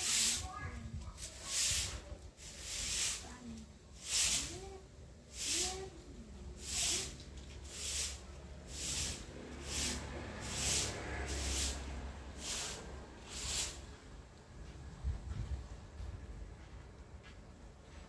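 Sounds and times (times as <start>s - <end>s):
broom sweeping tiles: 0.0s - 14.9s.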